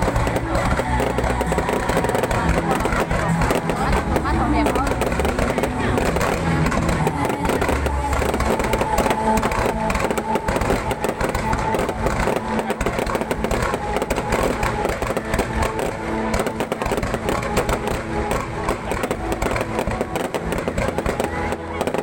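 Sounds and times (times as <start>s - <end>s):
fireworks crackling and popping: 0.0s - 22.0s
steady din: 0.0s - 22.0s.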